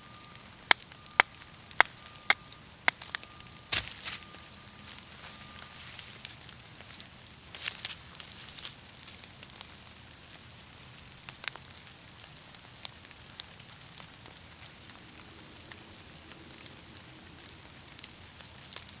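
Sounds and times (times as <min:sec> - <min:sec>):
dry leaves crackling: 0:00.0 - 0:19.0
soft steady hiss: 0:00.0 - 0:19.0.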